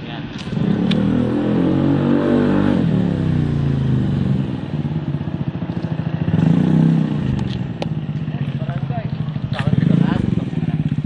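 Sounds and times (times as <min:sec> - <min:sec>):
scooter engine revving and idling: 0:00.3 - 0:11.0.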